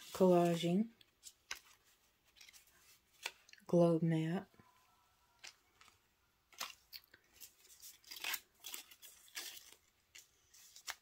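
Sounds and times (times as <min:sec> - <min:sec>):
paper crinkling and rustling: 0:00.0 - 0:03.5, 0:05.4 - 0:11.0.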